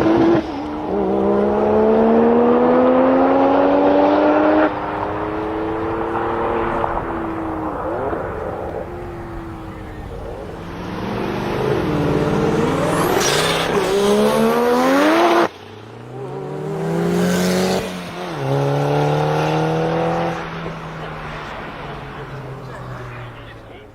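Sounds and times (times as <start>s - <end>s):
rotary engine accelerating: 0.0s - 23.6s.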